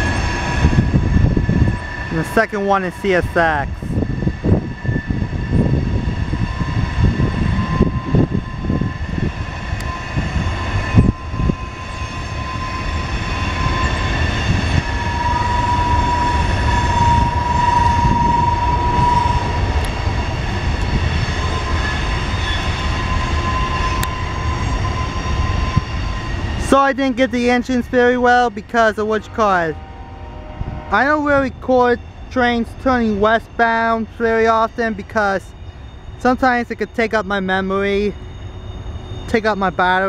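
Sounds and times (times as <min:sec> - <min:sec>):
high-pitched wheel squeal: 0:00.0 - 0:40.0
train wheels rumbling on rail: 0:00.0 - 0:40.0.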